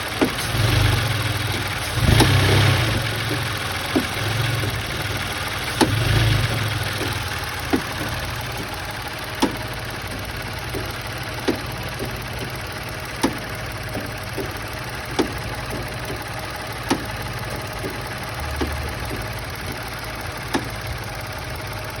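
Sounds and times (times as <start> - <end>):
car engine idling with knocks: 0.0 - 22.0.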